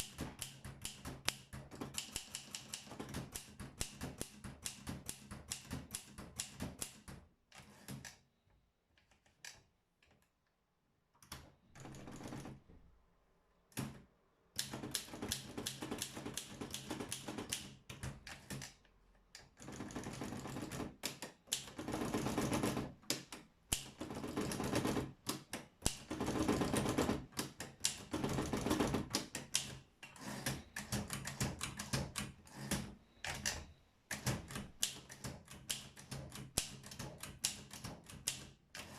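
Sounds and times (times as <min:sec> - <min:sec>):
manual typewriter typing: 0:00.0 - 0:08.1, 0:11.7 - 0:12.6, 0:14.6 - 0:18.8, 0:19.4 - 0:38.9.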